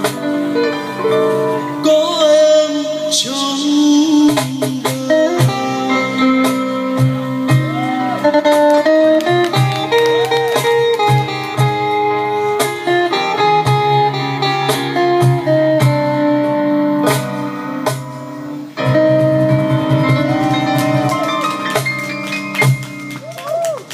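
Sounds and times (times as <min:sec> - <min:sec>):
guitar picked notes: 0:00.0 - 0:03.3, 0:04.6 - 0:23.9.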